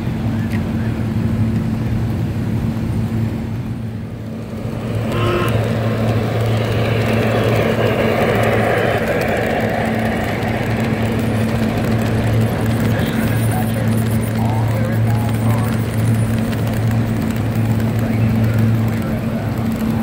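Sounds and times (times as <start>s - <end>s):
model train rumbling and clattering: 0.0s - 20.0s
steady electric hum: 0.0s - 20.0s.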